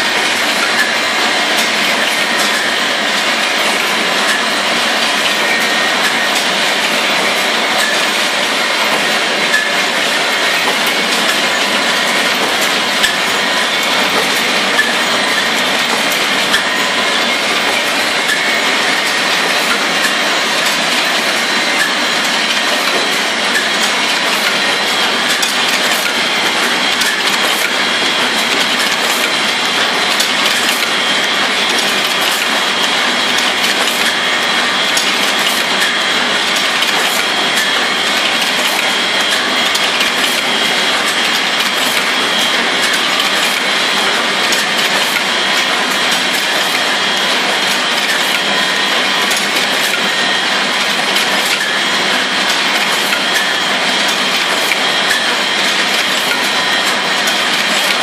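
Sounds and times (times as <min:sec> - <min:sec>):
wire forming machine clattering: 0:00.0 - 0:58.0.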